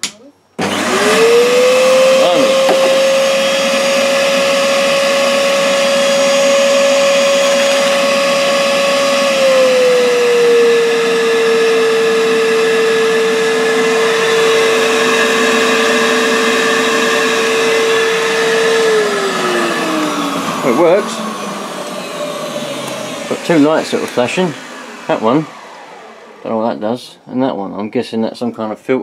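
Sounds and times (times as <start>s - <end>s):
vacuum cleaner motor whining: 0.6s - 27.2s.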